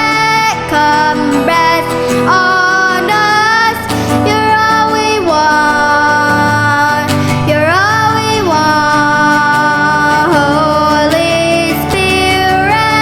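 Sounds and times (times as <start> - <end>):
instrumental backing: 0.0 - 13.0.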